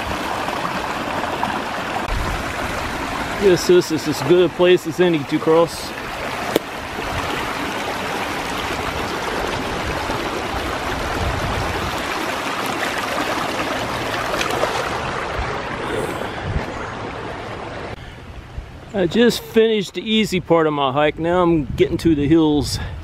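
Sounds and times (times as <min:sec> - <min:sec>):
creek water rushing: 0:00.0 - 0:19.6.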